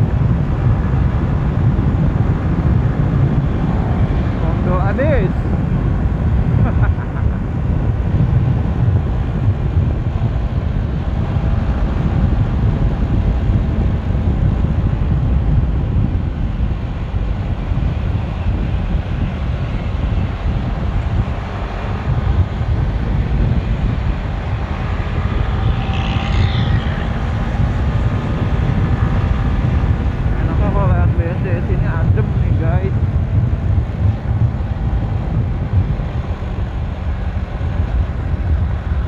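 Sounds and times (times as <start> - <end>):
motorcycle engine running: 0.0 - 39.0
wind on microphone: 0.0 - 39.0.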